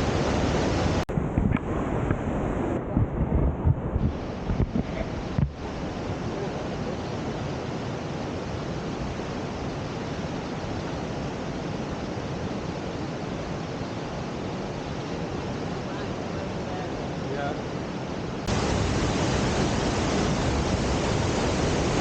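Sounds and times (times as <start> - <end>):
waterfall rushing: 0.0 - 1.0, 4.1 - 22.0.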